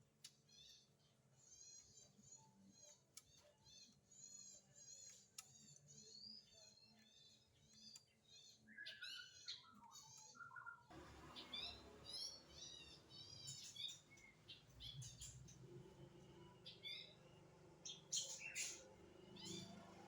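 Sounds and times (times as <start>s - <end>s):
songbird chirping: 0.2s - 20.0s.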